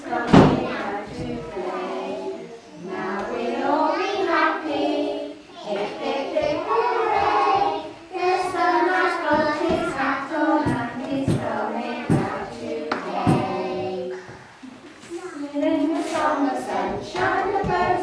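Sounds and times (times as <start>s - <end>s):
children's choir singing: 0.0s - 14.6s, 15.5s - 18.0s.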